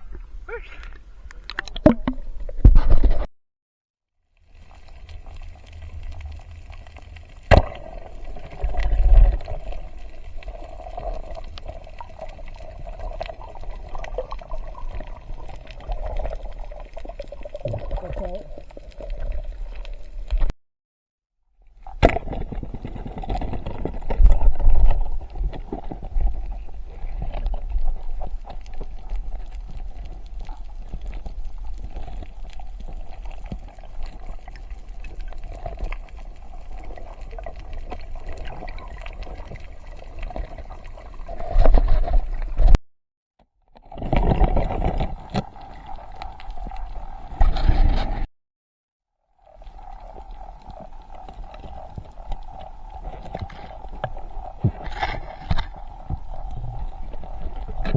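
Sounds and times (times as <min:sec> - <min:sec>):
water gurgling and sloshing: 0:00.0 - 0:03.3, 0:04.5 - 0:20.5, 0:21.6 - 0:42.8, 0:43.8 - 0:48.3, 0:49.4 - 0:57.9.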